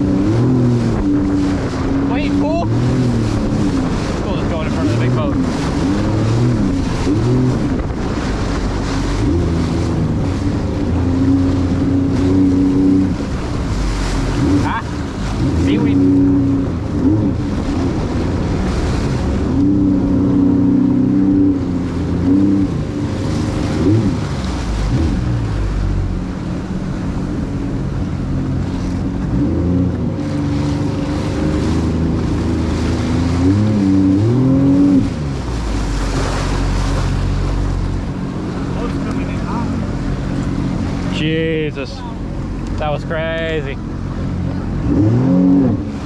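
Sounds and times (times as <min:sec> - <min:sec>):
wind noise on microphone: 0:00.0 - 0:38.4
jet ski engine revving: 0:00.0 - 0:46.0
rushing water: 0:00.0 - 0:46.0.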